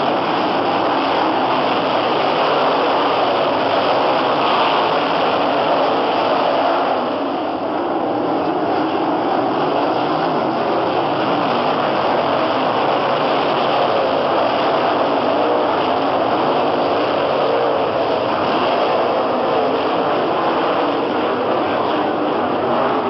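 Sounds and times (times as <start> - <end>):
race car engines roaring: 0.0 - 23.0.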